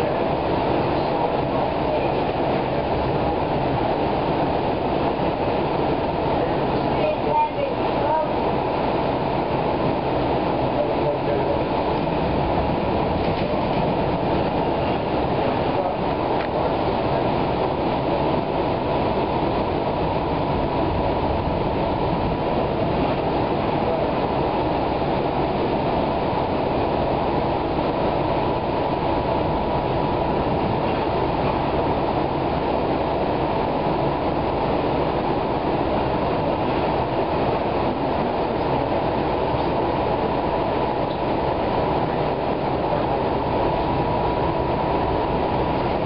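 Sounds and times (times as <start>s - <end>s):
light-rail car running on track: 0.0s - 46.0s.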